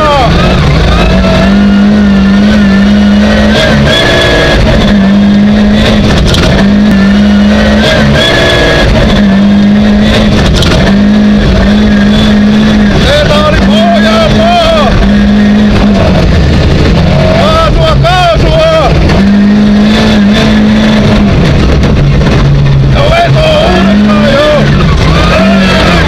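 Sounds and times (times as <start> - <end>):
car engine at high revs: 0.0 - 26.0.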